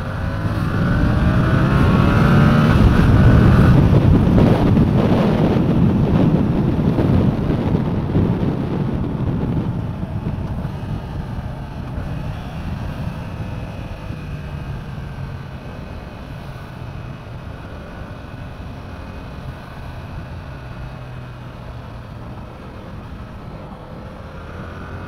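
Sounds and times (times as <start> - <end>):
motorcycle engine running: 0.0 - 25.0
wind rushing on microphone: 0.0 - 25.0.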